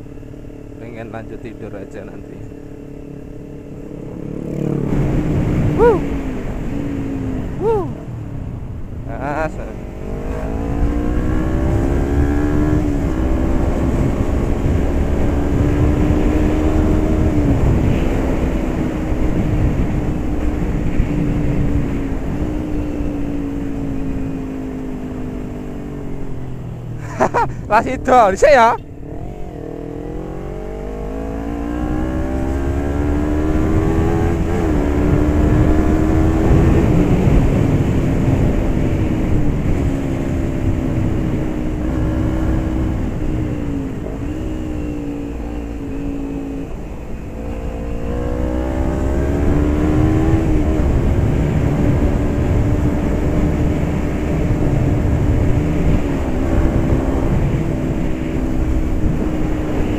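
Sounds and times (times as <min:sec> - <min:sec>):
low wind rumble: 0:00.0 - 0:59.9
motorcycle engine riding: 0:00.0 - 0:59.9.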